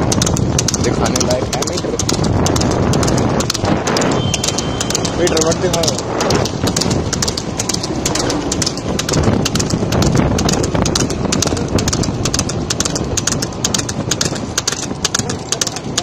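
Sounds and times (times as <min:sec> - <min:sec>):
hoofbeats clattering: 0:00.0 - 0:16.0
vehicle rumble: 0:00.0 - 0:16.0
wind rumble: 0:00.0 - 0:16.0.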